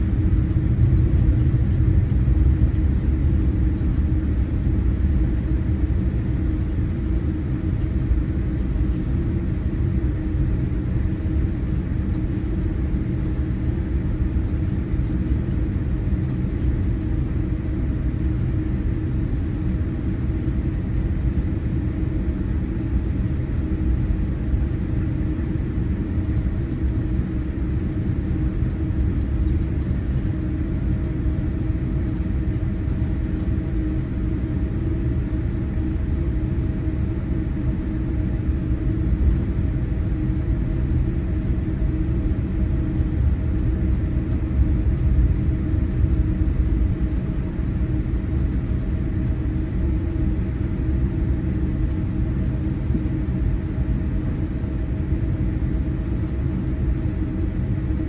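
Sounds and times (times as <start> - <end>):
jet airliner rumble: 0.0 - 58.0.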